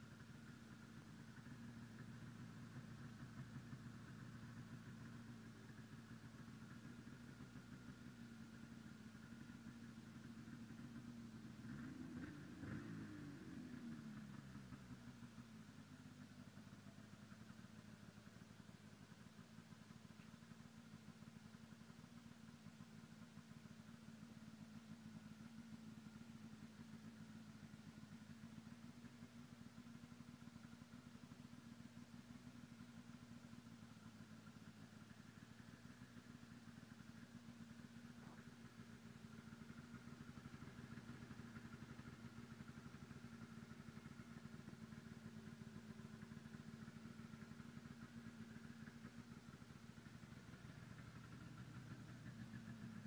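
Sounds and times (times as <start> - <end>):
snowmobile engine idling: 0.0 - 53.0.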